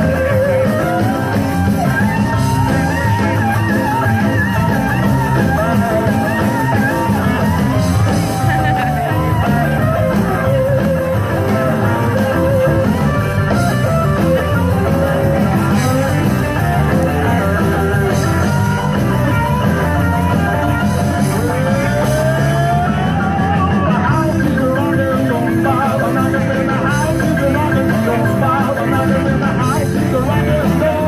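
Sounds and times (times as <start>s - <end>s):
rock music with guitar: 0.0s - 31.0s.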